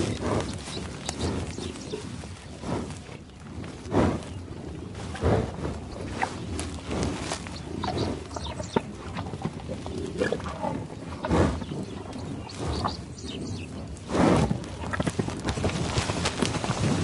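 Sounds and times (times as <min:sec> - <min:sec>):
water buffalo sounds: 0:00.0 - 0:17.0.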